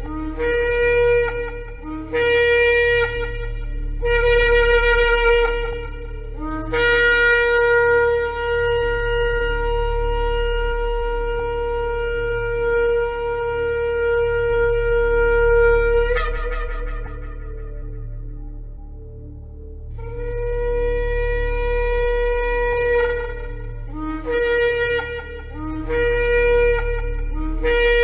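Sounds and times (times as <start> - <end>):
shofar blasts: 0.0 - 19.3, 19.9 - 28.0
steady low hum: 0.0 - 28.0.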